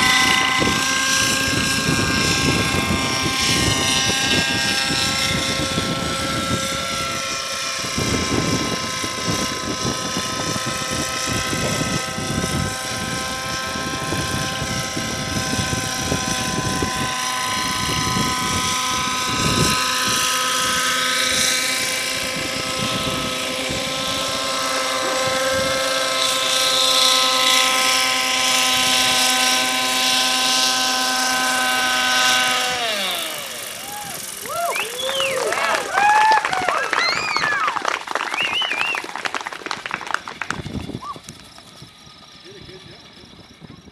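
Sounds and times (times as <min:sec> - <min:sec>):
wind rumble on microphone: 0:00.0 - 0:37.7, 0:39.8 - 0:43.9
model helicopter whining: 0:00.0 - 0:43.9.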